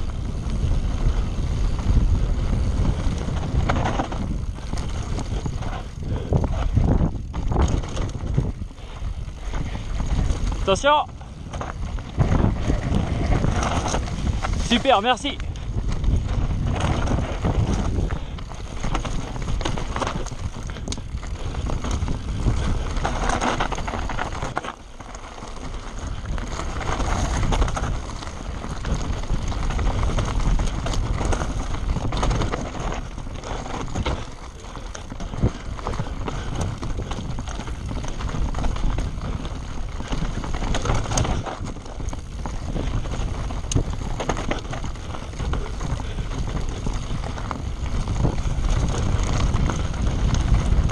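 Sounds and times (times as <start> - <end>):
bike knocks and rattles: 0.0 - 50.9
wind buffeting microphone: 0.0 - 50.9
tyre noise on loose rock: 0.1 - 50.9.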